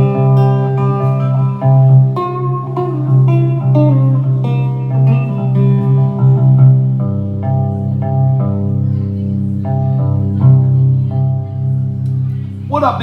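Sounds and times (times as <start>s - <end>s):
sustained low guitar note: 0.0s - 12.6s
guitar picked notes: 0.0s - 13.0s.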